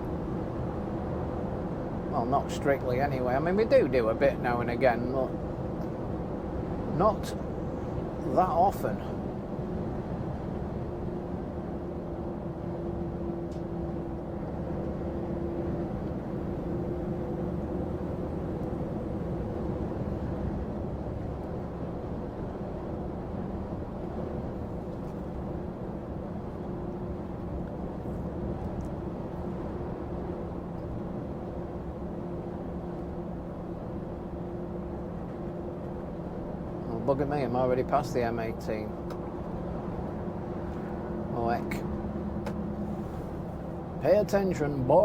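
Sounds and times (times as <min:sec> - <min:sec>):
constant low hum: 0:00.0 - 0:45.0
road noise: 0:00.0 - 0:45.0
truck engine drone: 0:00.0 - 0:45.0.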